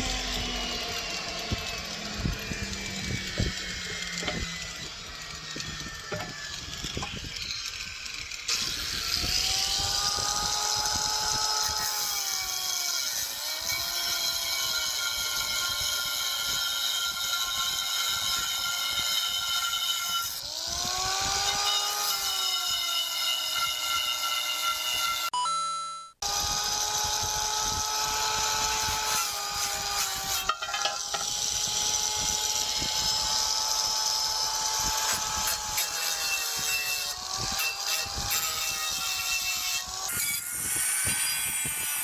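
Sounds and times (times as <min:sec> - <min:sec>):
electric power tool on metal lid: 0:00.0 - 0:25.4, 0:26.2 - 0:42.0.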